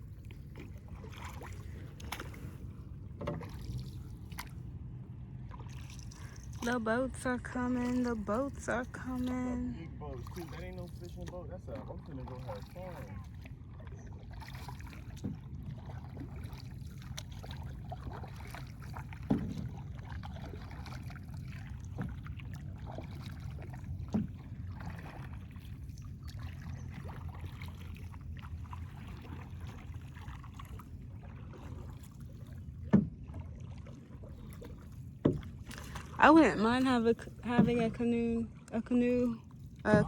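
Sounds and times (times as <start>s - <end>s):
water swishing around paddle: 0.0s - 40.0s
paddle knocking on canoe: 0.1s - 4.6s, 10.2s - 40.0s.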